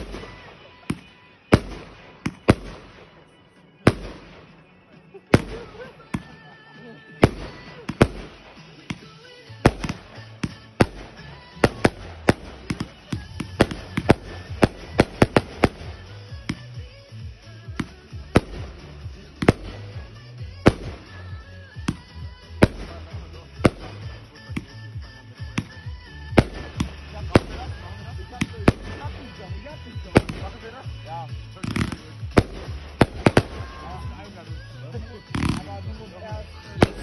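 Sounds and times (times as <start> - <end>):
fireworks bursting: 0.0 - 37.0
music playing: 0.0 - 37.0.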